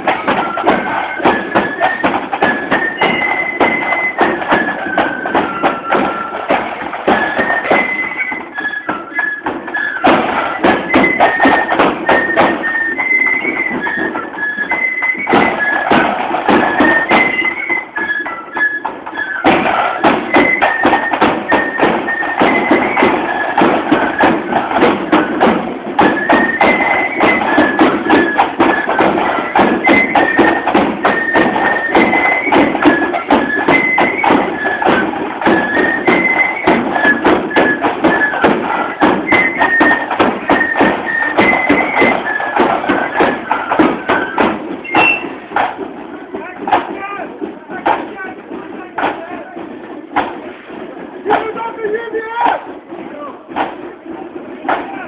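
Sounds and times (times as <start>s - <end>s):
flutes playing high melody: 0.0s - 47.2s.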